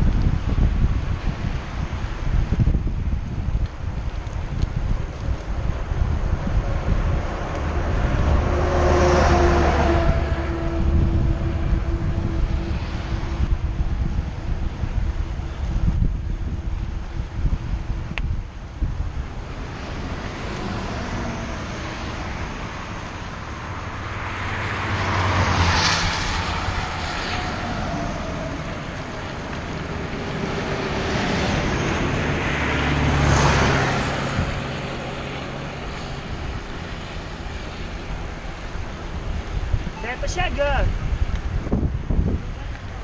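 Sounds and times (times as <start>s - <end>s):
motor vehicles passing: 0.0s - 43.0s
road and wind noise: 0.0s - 43.0s.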